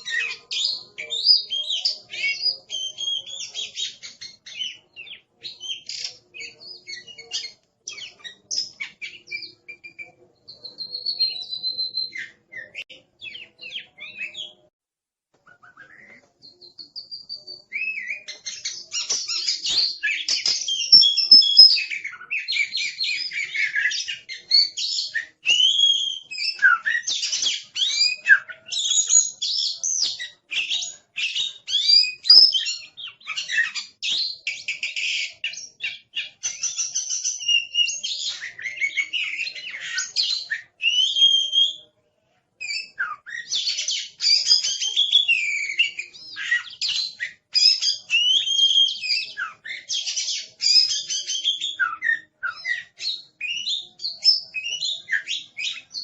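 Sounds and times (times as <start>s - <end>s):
bird singing varied whistles: 0.0s - 14.6s, 15.5s - 41.8s, 42.6s - 56.0s.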